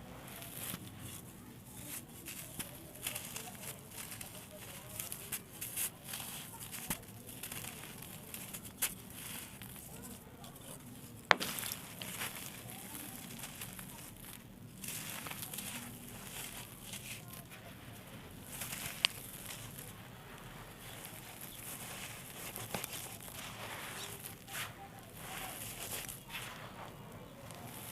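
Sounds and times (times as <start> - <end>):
dry dirt crumbling and crackling: 0.0 - 27.9.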